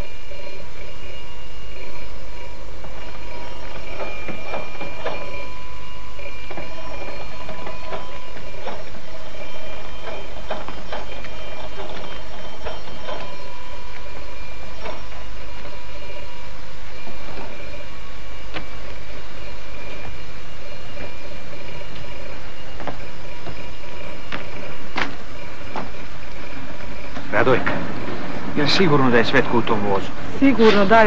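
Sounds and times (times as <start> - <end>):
train running on rails: 0.0 - 31.0
wheels clacking on rails: 0.0 - 31.0.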